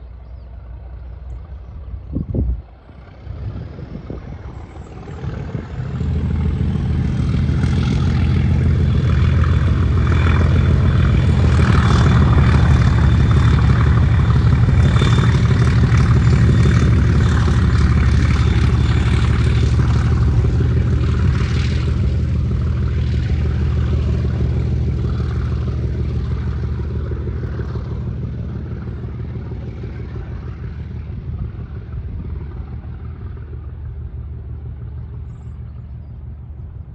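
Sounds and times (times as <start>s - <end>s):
diesel locomotive passing: 0.0s - 36.9s.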